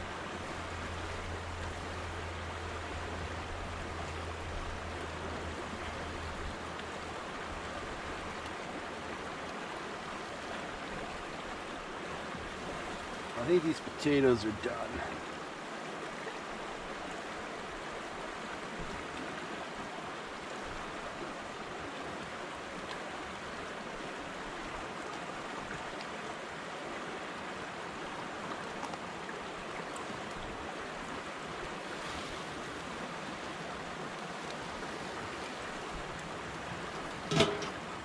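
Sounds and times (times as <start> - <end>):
river current rushing: 0.0 - 38.0.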